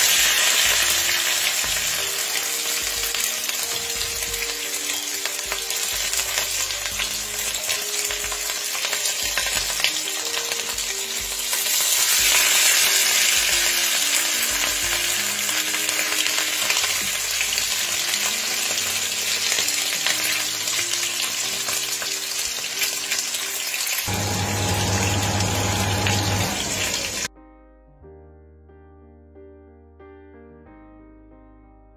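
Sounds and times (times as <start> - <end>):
fish sizzling in hot oil: 0.0 - 27.3
faint background music: 0.0 - 28.4
quiet piano music: 0.0 - 31.9.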